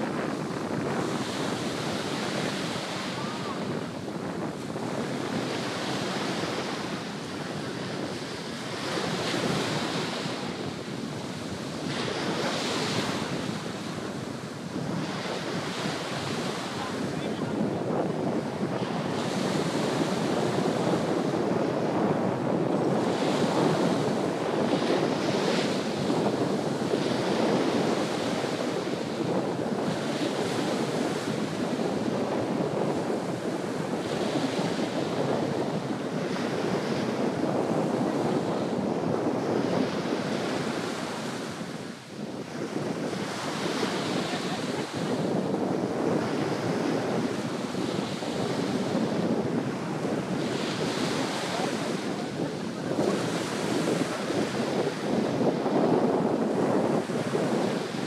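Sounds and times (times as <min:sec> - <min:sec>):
waves washing up a beach: 0:00.0 - 0:58.0
wind buffeting the microphone: 0:00.0 - 0:58.0.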